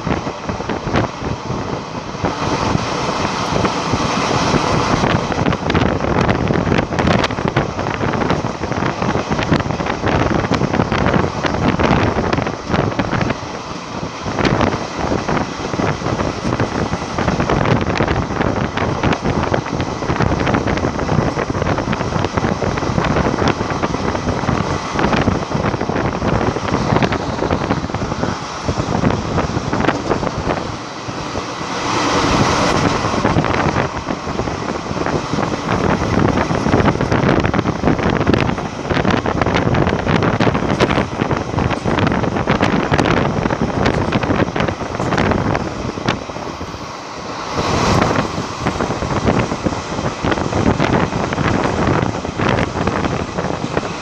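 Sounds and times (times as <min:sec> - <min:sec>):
train wheels rumbling on rails: 0:00.0 - 0:54.0
wind buffeting microphone: 0:00.0 - 0:54.0.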